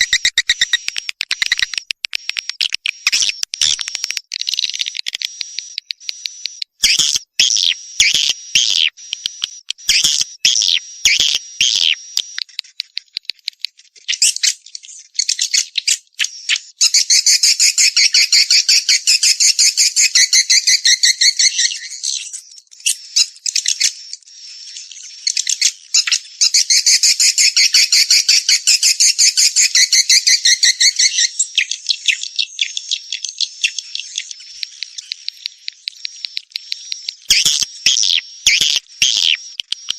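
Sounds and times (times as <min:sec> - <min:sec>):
fast rattling bird trills: 0:00.0 - 0:06.0, 0:06.6 - 0:39.9
bird high chirps and clicks: 0:00.0 - 0:39.9.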